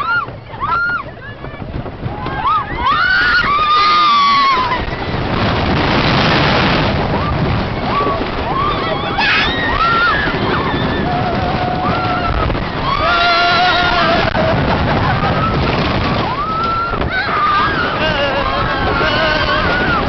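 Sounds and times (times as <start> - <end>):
roller coaster wind and track noise: 0.0 - 20.0
riders screaming: 2.2 - 5.7, 7.1 - 20.0.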